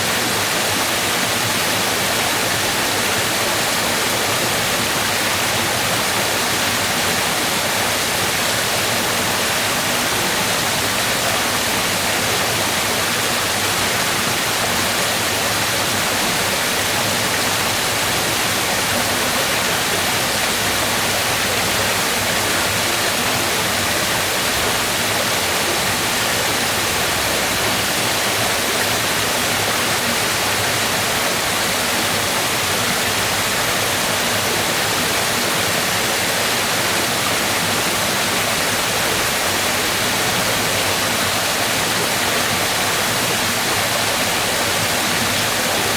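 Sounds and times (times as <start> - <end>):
waterfall: 0.0 - 45.9.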